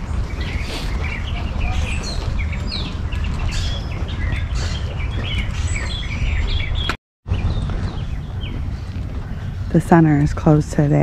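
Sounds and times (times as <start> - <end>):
birds chirping and calling: 0.0 - 11.0
steady low rumble: 0.0 - 11.0.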